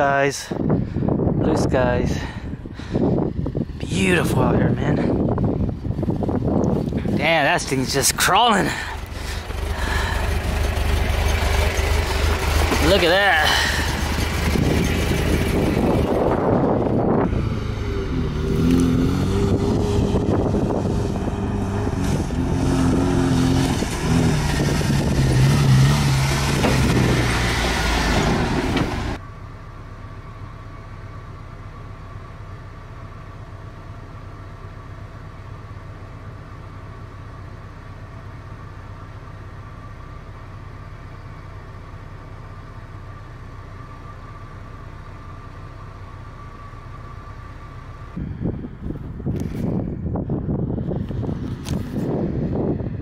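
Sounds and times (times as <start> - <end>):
quiet steady engine hum: 0.0 - 27.2, 28.4 - 53.0
pickup engine pulling slowly: 2.1 - 53.0.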